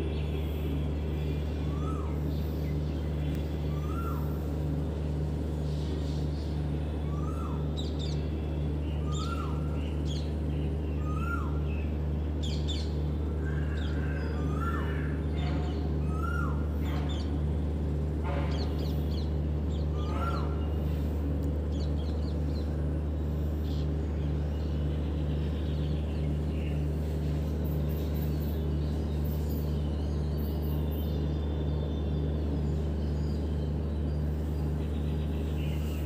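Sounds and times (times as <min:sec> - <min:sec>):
small birds chirping: 0:00.0 - 0:17.9, 0:18.5 - 0:36.0
steady low hum: 0:00.0 - 0:36.0.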